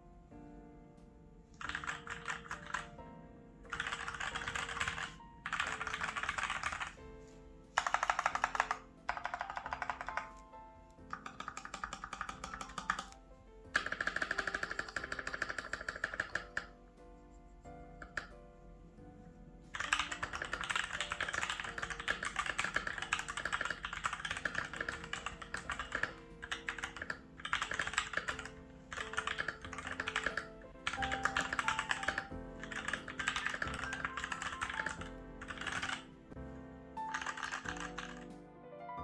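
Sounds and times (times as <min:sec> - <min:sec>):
background music: 0:00.0 - 0:39.0
mechanical keyboard typing: 0:01.5 - 0:03.0, 0:03.7 - 0:07.0, 0:07.8 - 0:16.8, 0:17.9 - 0:18.4, 0:19.7 - 0:36.4, 0:37.0 - 0:38.4.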